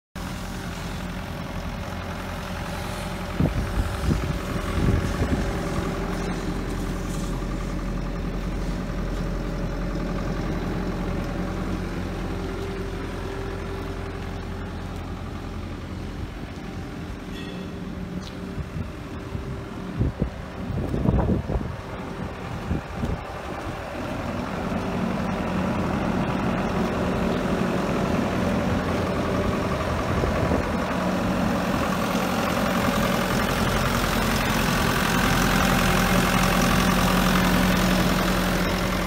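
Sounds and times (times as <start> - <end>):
diesel engine idling: 0.2 - 39.0.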